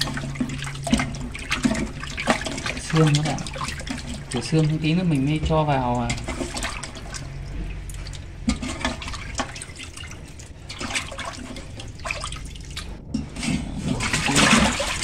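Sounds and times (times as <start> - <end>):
water sloshing in a pot: 0.0 - 15.0
water stream running into pot: 0.0 - 15.0.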